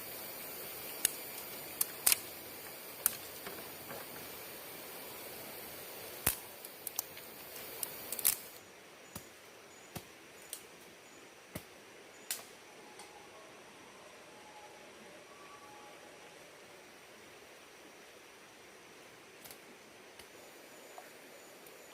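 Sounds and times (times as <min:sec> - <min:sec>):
soft hiss: 0:00.0 - 0:21.9.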